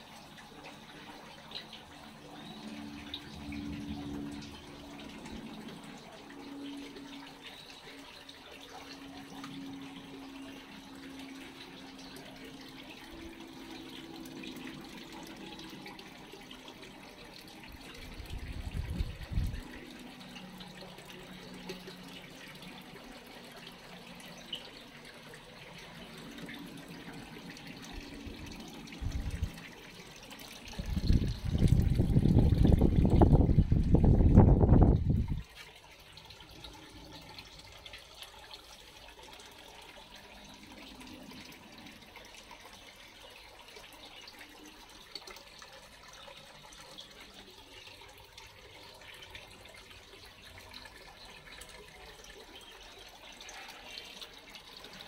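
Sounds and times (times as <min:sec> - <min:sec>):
water trickling: 0:00.0 - 0:55.0
faint hum: 0:00.1 - 0:45.2.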